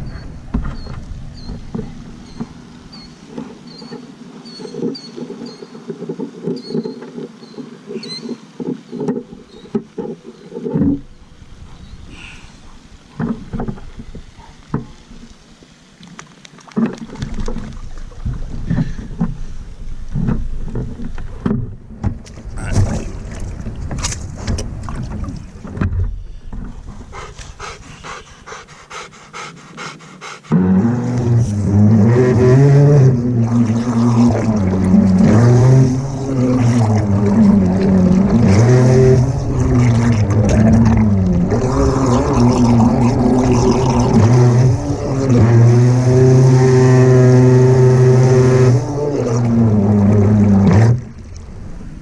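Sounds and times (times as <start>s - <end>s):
boat motor humming: 0.0s - 16.0s, 16.7s - 52.0s.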